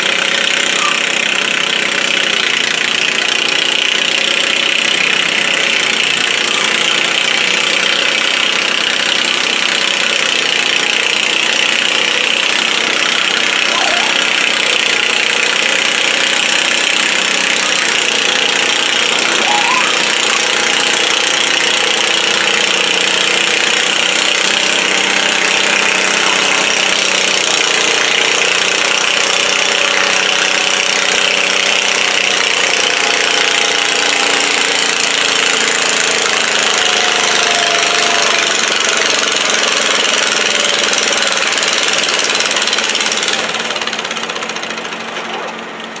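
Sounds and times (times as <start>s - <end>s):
tractor engine under load: 0.0s - 46.0s.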